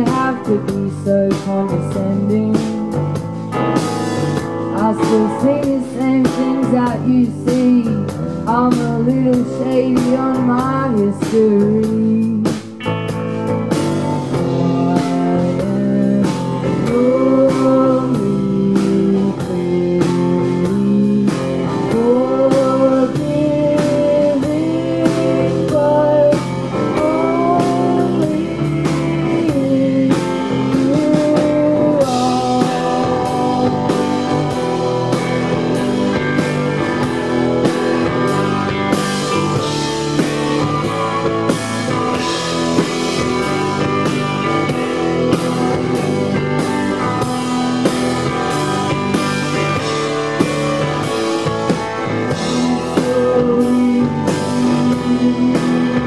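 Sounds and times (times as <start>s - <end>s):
electric guitar lead with bends: 0.0s - 56.0s
live rock band playing: 0.0s - 56.0s.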